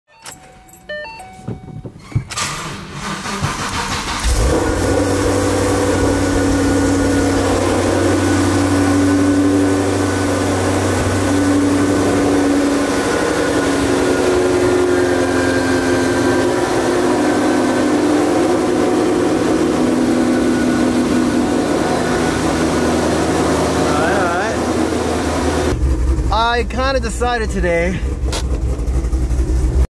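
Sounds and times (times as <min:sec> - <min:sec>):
car engine idling: 0:00.3 - 0:29.9.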